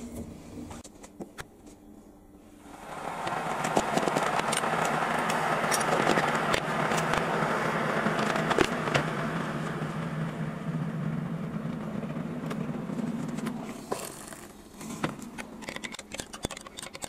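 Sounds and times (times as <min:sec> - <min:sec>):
electric kettle heating water: 0:02.5 - 0:16.6.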